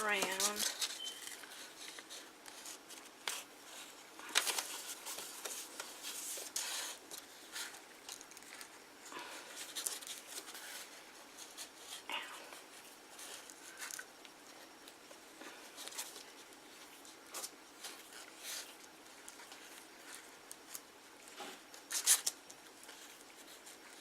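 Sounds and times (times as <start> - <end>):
hands rustling craft materials: 0.0 - 24.0.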